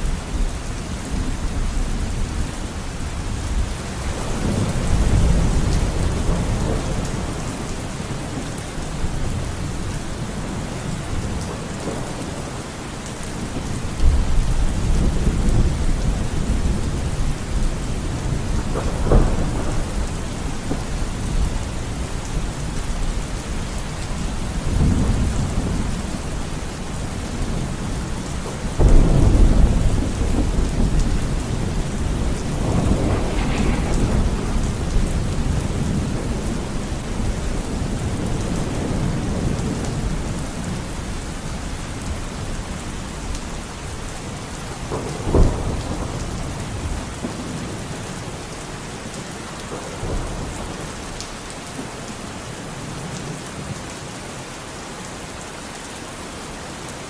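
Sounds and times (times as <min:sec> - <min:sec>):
steady rain: 0:00.0 - 0:57.0
thunder rumbling: 0:01.1 - 0:48.6.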